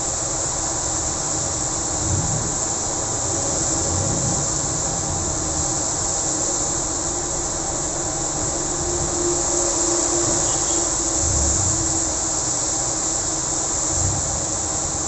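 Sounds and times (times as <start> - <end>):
heavy rain hissing: 0.0 - 15.0
traffic on a wet road: 0.0 - 15.0.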